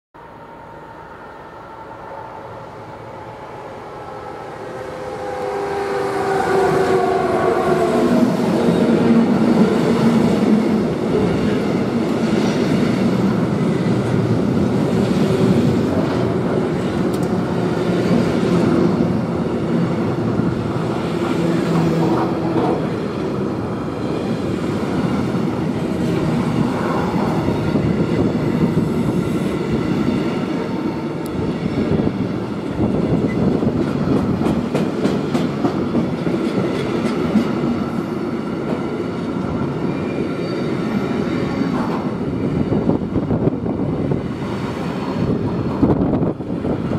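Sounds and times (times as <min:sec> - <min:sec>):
locomotive whine: 0:00.2 - 0:36.2, 0:36.8 - 0:46.9
train wheels rumbling on rails: 0:02.8 - 0:46.9.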